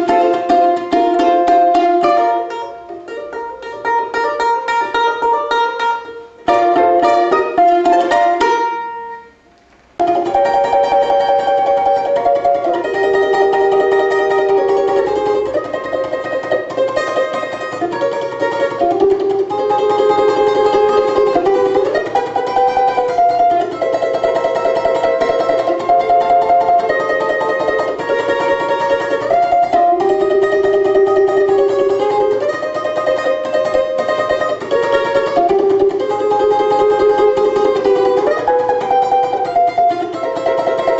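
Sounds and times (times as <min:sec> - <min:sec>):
plucked string music: 0:00.0 - 0:40.9.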